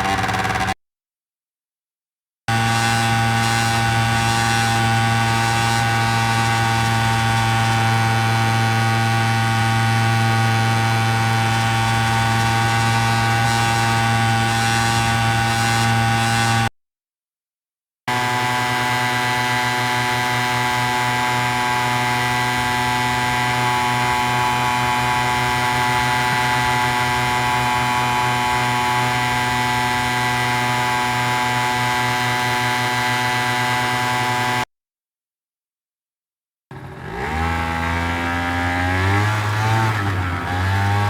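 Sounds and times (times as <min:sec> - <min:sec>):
scooter engine buzzing: 0:00.0 - 0:00.8, 0:02.5 - 0:16.7, 0:18.1 - 0:34.6, 0:36.7 - 0:41.0.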